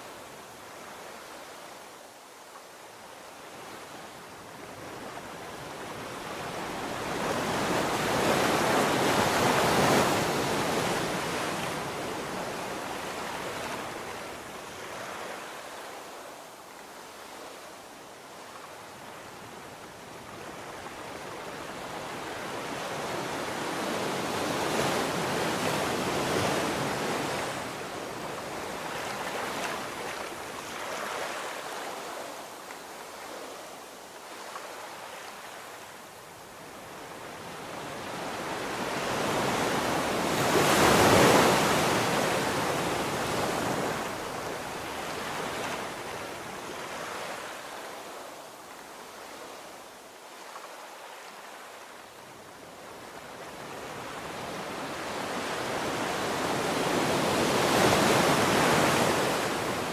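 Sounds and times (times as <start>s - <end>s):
ocean surf breaking on beach: 3.4s - 59.9s.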